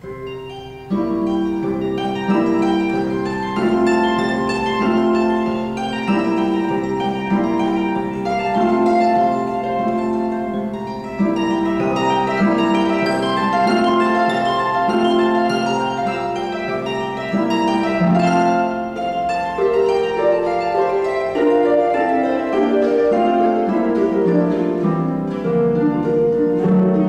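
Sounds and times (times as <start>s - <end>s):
harp plucked chords: 0.0s - 27.0s.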